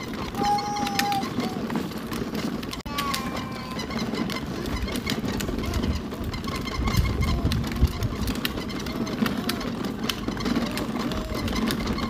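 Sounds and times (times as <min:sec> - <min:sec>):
toy scooter rumbling on asphalt: 0:00.0 - 0:12.0.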